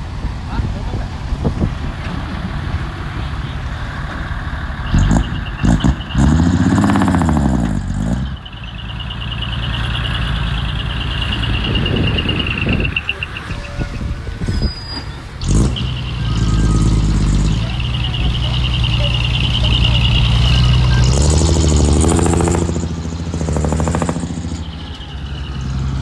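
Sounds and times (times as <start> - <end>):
heavy machinery diesel engine revving: 0.0 - 26.0.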